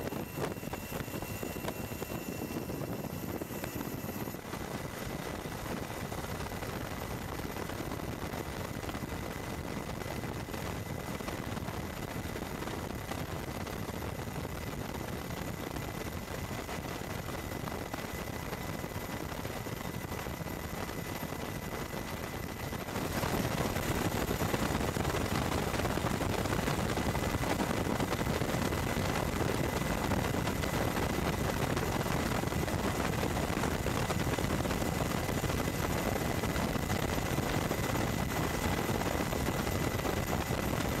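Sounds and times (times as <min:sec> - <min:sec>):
helicopter rotor and turbine: 0:00.0 - 0:41.0
thin high whine: 0:00.0 - 0:41.0.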